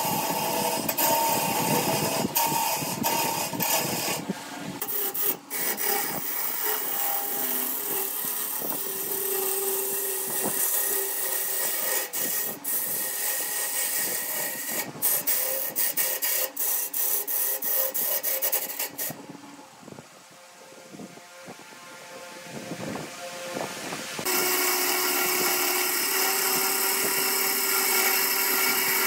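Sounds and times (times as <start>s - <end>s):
lathe tool scraping wood: 0.0s - 19.2s, 24.2s - 29.0s.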